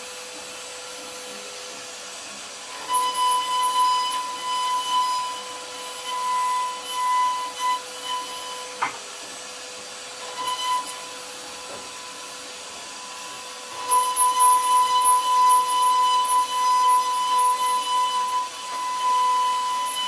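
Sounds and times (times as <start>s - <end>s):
router spindle whining: 0.0s - 20.0s
bit cutting wood hiss: 1.1s - 20.0s.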